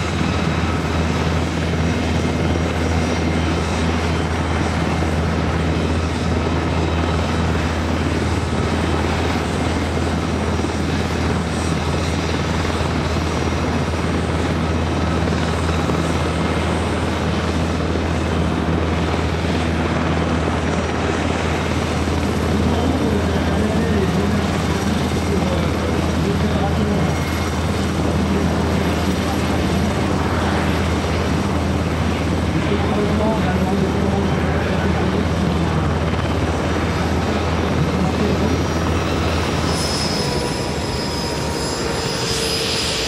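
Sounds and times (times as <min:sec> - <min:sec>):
helicopter rotor beat: 0:00.0 - 0:43.0
helicopter turbine noise: 0:00.0 - 0:43.0.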